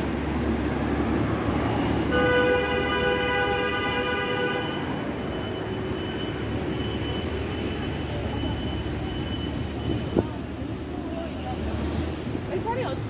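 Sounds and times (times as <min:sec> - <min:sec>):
street traffic rumbling: 0:00.0 - 0:13.0.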